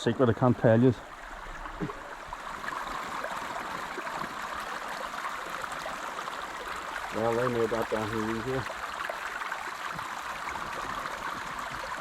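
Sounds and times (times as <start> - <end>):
creek water flowing past rocks: 0.0 - 12.0.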